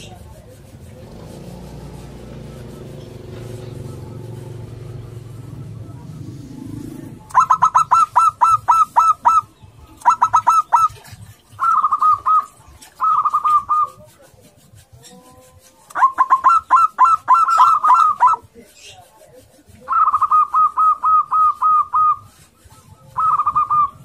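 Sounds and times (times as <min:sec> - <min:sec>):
dove cooing and trilling: 0:00.0 - 0:14.3, 0:16.0 - 0:18.5, 0:19.9 - 0:24.0.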